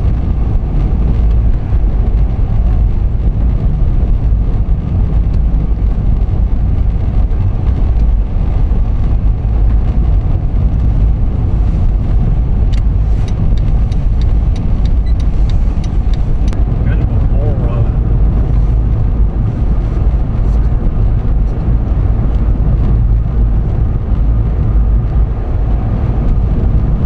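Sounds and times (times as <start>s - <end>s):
car driving rumble: 0.0s - 27.0s.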